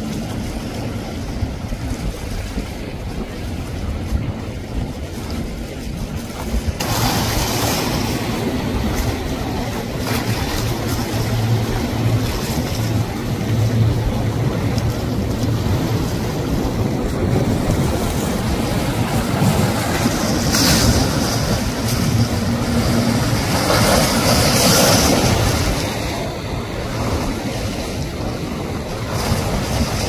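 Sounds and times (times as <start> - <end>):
hull rush and wake spray: 0.0 - 30.0
speedboat engine drone: 0.0 - 30.0
wind on microphone: 0.0 - 30.0.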